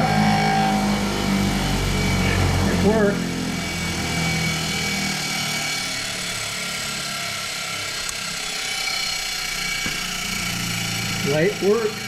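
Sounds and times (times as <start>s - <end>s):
angle grinder whining: 0.0s - 12.0s.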